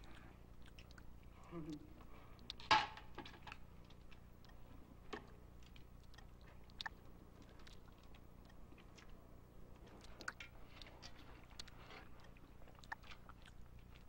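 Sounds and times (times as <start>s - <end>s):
faint low hum: 0.0s - 14.0s
people chewing and smacking lips: 0.0s - 14.0s.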